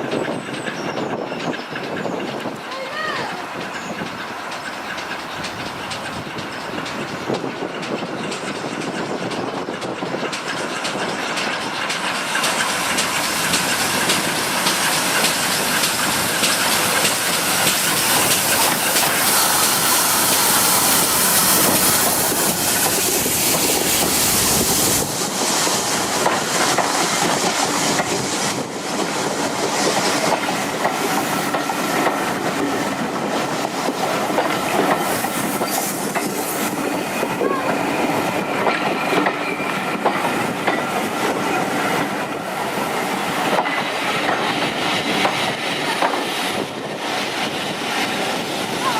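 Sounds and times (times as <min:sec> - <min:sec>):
wheels clattering over rail joints: 0:00.0 - 0:48.2
low rumble of train: 0:00.0 - 0:48.9
steam hissing: 0:01.3 - 0:48.9.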